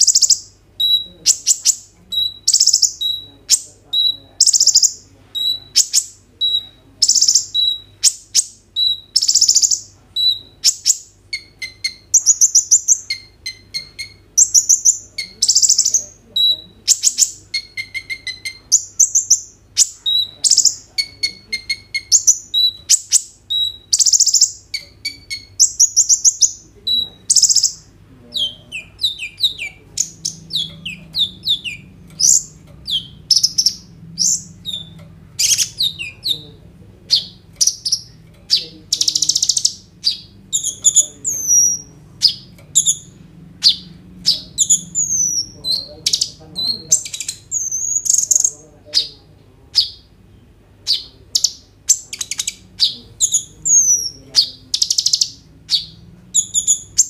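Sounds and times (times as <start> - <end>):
sunbird singing: 0.0 - 57.0.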